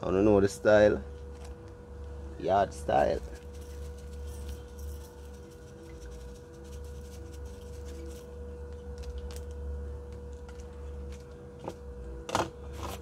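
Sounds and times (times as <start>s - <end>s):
steady high hum: 0.0s - 13.0s.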